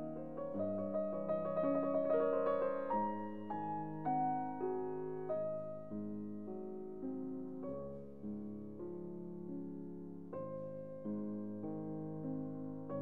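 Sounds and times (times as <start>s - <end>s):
piano playing notes and chords: 0.0s - 13.0s.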